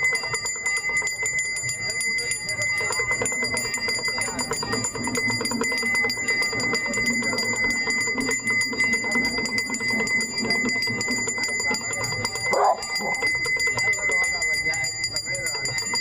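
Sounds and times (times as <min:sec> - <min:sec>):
brass hand bells clanging: 0:00.0 - 0:16.0
low chanting voices: 0:00.1 - 0:16.0.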